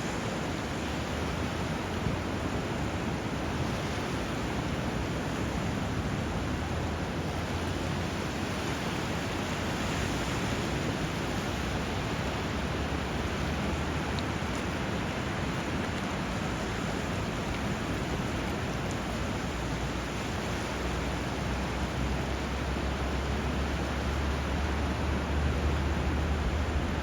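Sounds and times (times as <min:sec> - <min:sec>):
flowing river water: 0:00.0 - 0:27.0
sea surf: 0:00.0 - 0:27.0.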